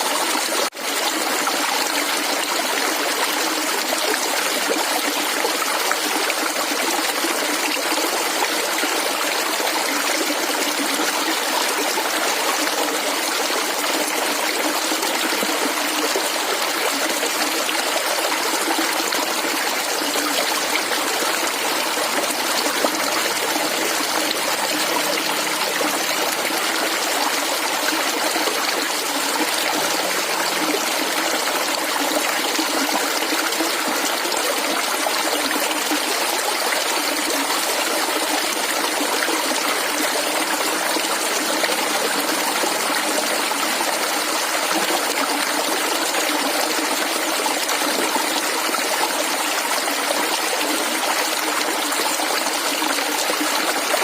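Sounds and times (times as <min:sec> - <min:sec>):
stream water gurgling: 0:00.0 - 0:54.0.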